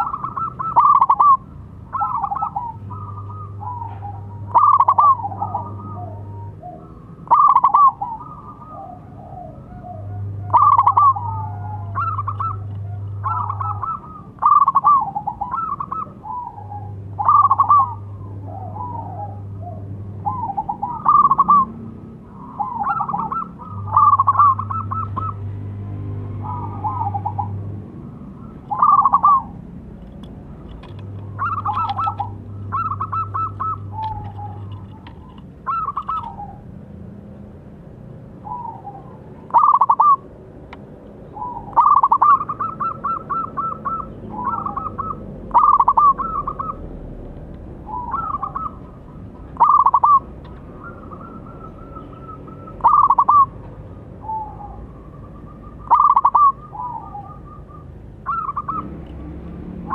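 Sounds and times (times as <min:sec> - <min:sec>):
dove cooing: 0:00.0 - 0:36.8, 0:38.4 - 0:40.3, 0:41.2 - 0:59.9.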